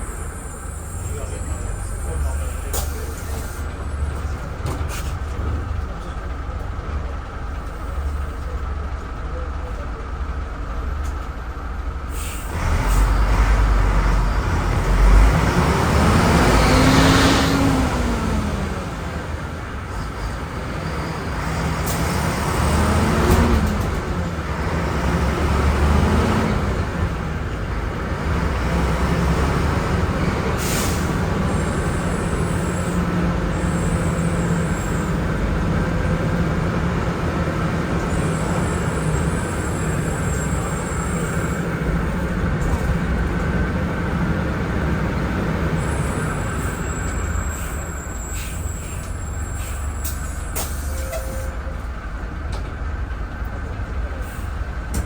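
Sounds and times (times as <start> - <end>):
diesel bus engine revving: 0.0 - 55.0.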